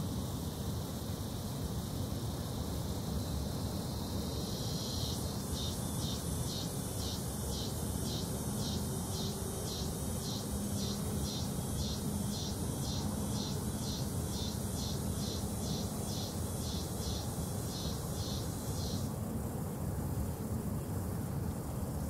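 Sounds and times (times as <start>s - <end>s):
insect chirping: 0.4s - 19.2s.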